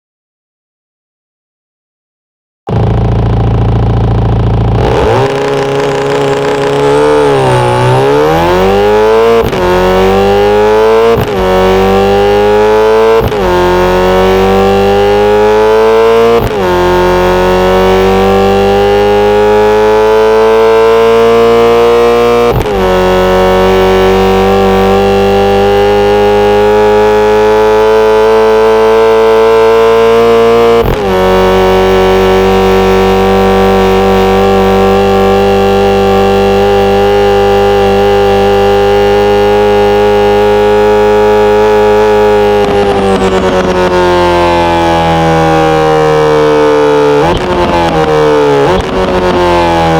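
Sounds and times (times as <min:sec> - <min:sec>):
synthesized car engine accelerating: 0:02.7 - 0:49.9.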